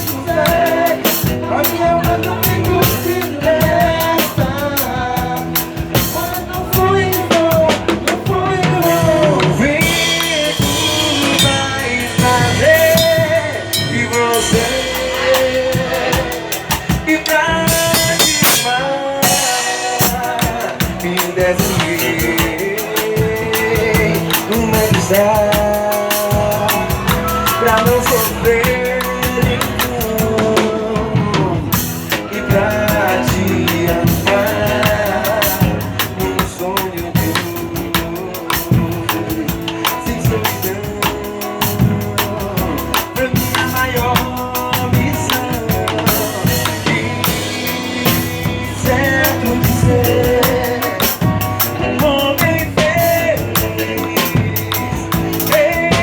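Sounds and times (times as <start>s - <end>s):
drum kit beat: 0.0s - 56.0s.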